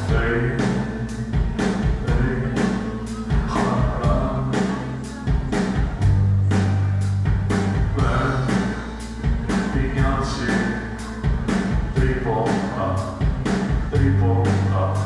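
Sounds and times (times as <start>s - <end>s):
person singing: 0.0s - 6.8s, 7.8s - 15.0s
drum beat: 0.0s - 15.0s
live rock band playing: 0.0s - 15.0s.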